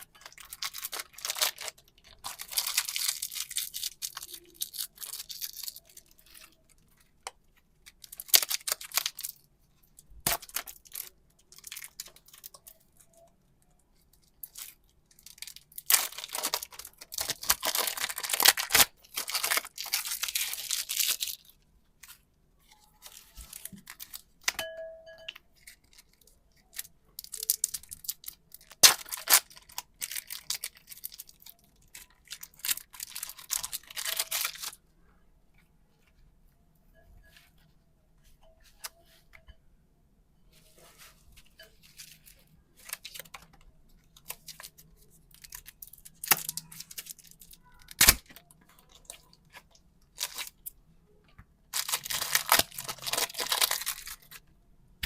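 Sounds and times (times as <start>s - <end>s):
clay packaging crinkling and tearing: 0.0s - 24.6s, 25.2s - 34.8s, 40.6s - 50.8s, 51.7s - 54.5s.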